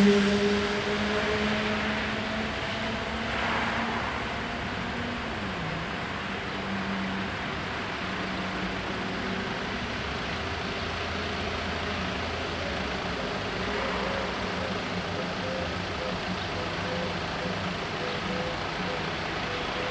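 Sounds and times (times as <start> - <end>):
traffic noise: 0.0 - 19.9
vehicle engines running: 0.0 - 19.9.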